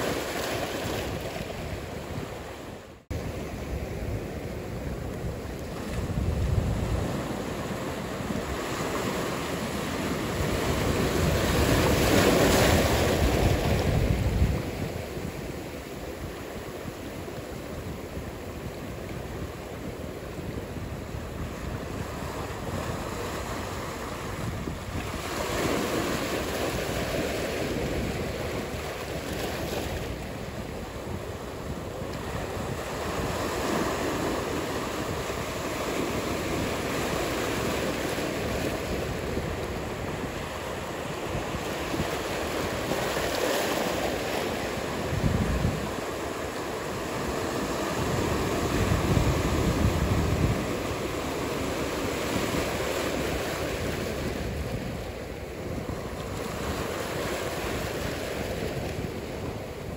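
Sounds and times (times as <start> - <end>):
waves breaking: 0.0 - 59.9
wind: 0.0 - 59.9.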